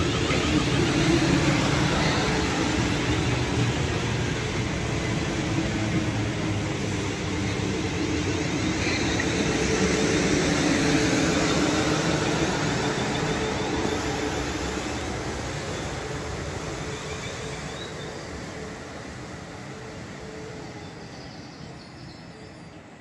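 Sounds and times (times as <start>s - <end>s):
electric train running past: 0.0s - 23.0s.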